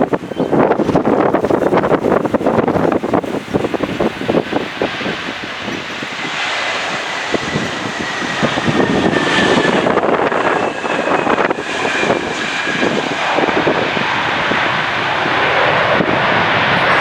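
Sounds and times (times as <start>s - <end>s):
jet engines whining and roaring: 0.0s - 17.0s
wind buffeting microphone: 0.0s - 17.0s.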